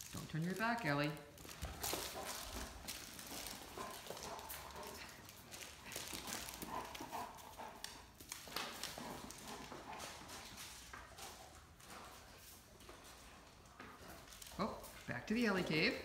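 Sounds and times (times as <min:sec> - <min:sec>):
dog claws clicking on tile: 0:00.0 - 0:16.0.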